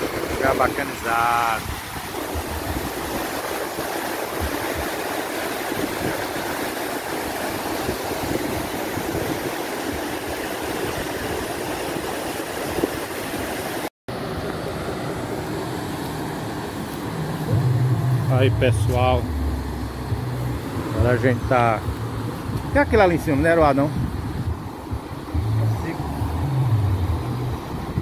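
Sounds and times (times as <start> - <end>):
river water rushing over rocks: 0.0 - 28.0.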